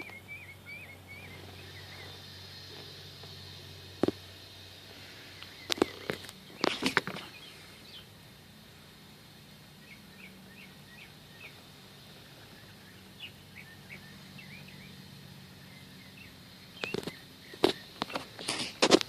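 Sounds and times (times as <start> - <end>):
faint bird chirps: 0.0 - 8.2, 9.6 - 18.3
low hum: 0.0 - 18.0.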